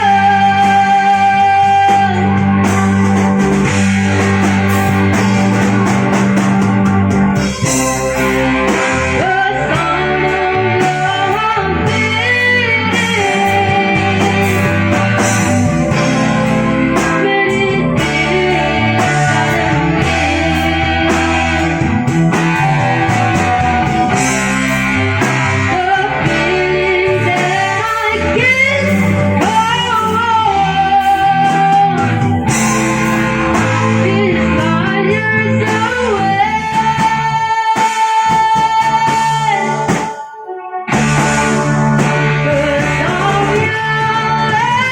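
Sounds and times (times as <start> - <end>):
electric guitar: 0.0 - 44.9
live band playing: 0.0 - 44.9.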